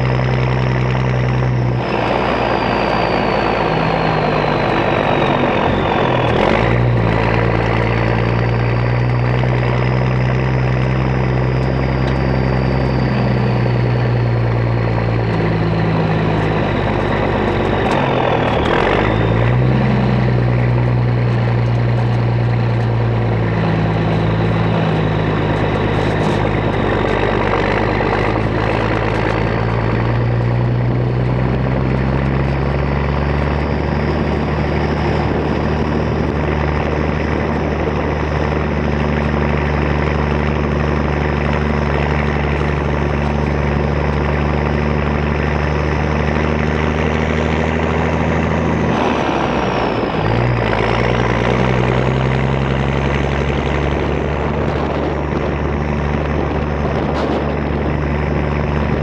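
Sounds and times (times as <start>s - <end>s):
diesel truck engine running hard: 0.0s - 59.0s.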